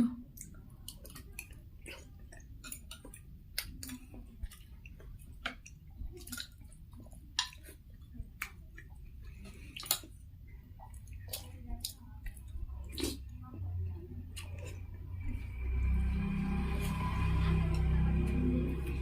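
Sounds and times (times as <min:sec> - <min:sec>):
people chewing and smacking: 0:00.2 - 0:19.0.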